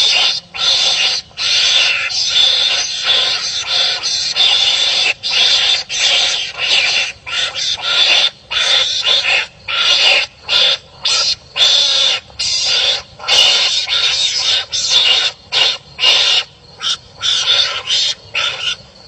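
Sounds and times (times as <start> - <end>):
animals fighting calls: 0.0 - 19.0.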